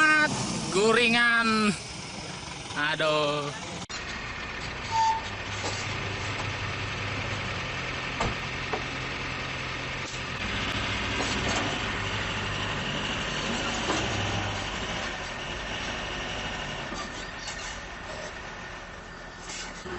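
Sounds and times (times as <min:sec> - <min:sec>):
heavy vehicle engine running: 0:00.0 - 0:19.9.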